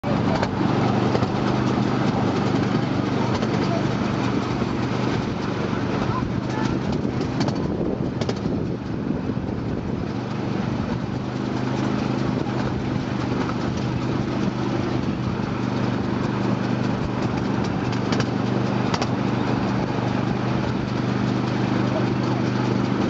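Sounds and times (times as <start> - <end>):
miniature train engine humming: 0.0 - 23.0.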